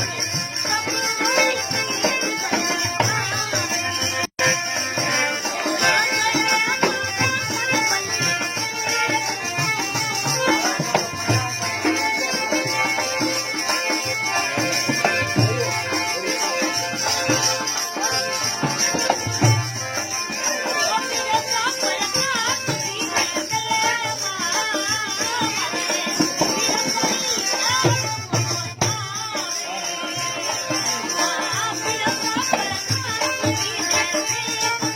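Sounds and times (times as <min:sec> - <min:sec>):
hand drum beat: 0:00.0 - 0:34.9.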